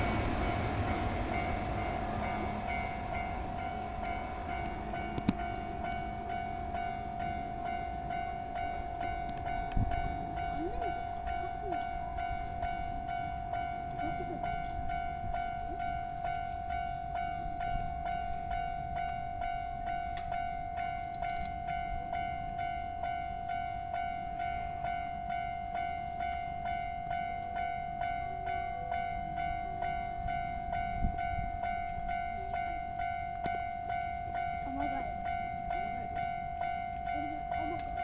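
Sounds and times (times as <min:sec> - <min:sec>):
level crossing warning bell ringing: 0:00.0 - 0:38.0
low railway rumble: 0:00.0 - 0:38.0.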